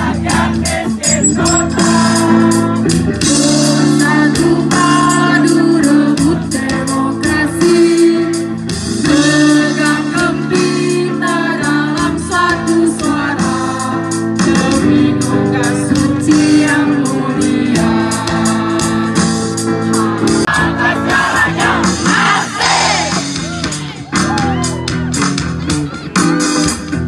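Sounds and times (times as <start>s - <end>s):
group singing: 0.0s - 8.2s, 9.1s - 23.2s.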